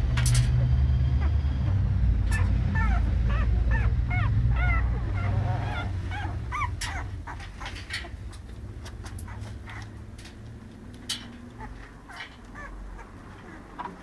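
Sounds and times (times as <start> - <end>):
puppies squeaking and whimpering: 0.5 - 14.0.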